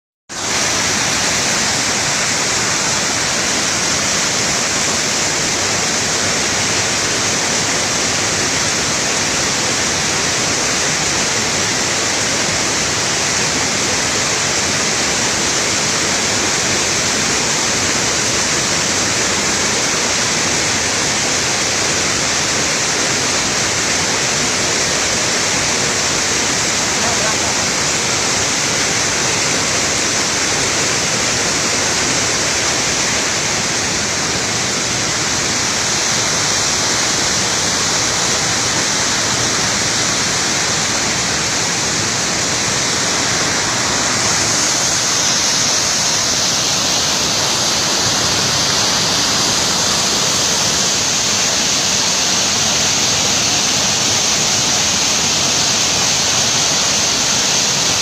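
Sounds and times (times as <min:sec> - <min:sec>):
waterfall rushing: 0:00.3 - 0:58.0.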